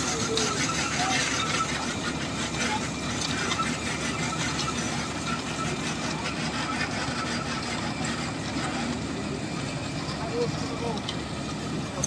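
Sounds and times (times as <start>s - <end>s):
plant machinery mechanical drone: 0.0s - 12.0s.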